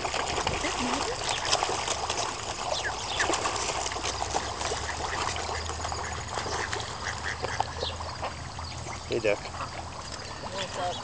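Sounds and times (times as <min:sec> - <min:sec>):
fish splashing at the surface: 0:00.0 - 0:11.0.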